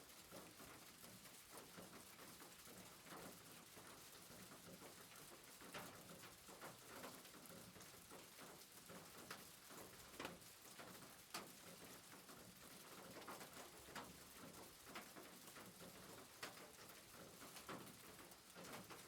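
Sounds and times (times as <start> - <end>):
drip-like ticks: 0.2 - 19.0.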